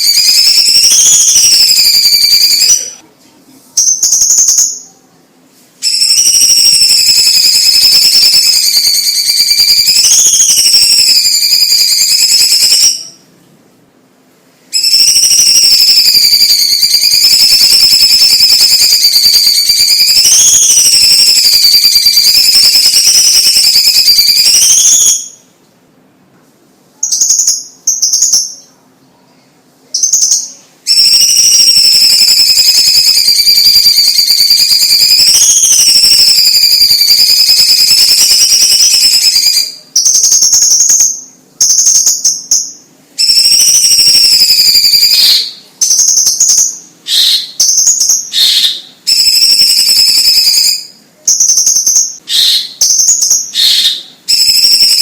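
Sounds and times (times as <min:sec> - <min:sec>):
bird singing whistled song: 0:00.0 - 0:03.0, 0:03.8 - 0:05.0, 0:05.8 - 0:13.2, 0:14.7 - 0:25.5, 0:27.0 - 0:28.7, 0:30.0 - 0:55.0.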